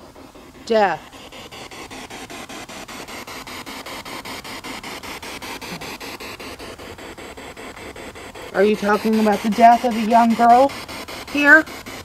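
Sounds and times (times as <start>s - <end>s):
radio static: 2.0s - 12.0s.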